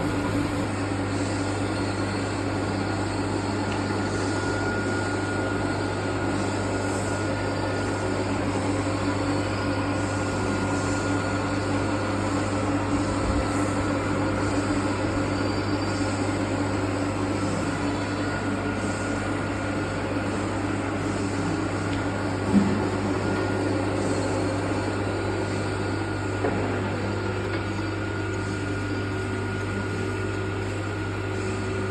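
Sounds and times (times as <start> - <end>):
metal lathe humming: 0.0 - 31.9.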